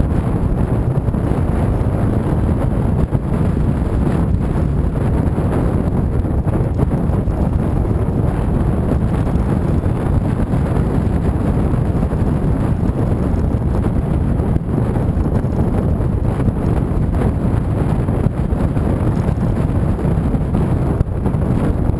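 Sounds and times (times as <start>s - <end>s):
road and vehicle noise: 0.0s - 21.9s
wind rushing over microphone: 0.0s - 21.9s.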